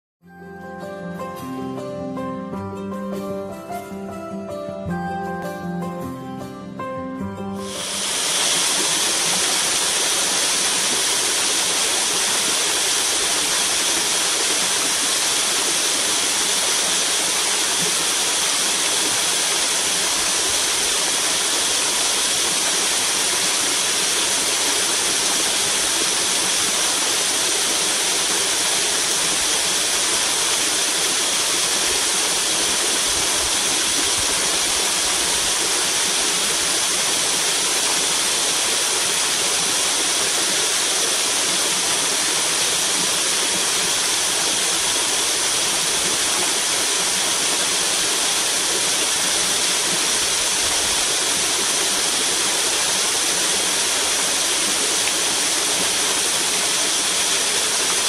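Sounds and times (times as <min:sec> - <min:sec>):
small waterfall splashing: 0:07.7 - 0:58.0.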